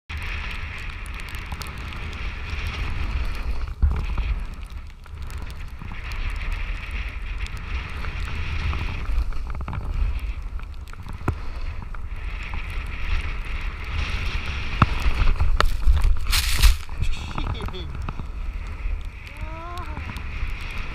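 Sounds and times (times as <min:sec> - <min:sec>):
snowboard sliding over snow: 0:00.1 - 0:20.9
wind buffeting microphone: 0:00.1 - 0:20.9.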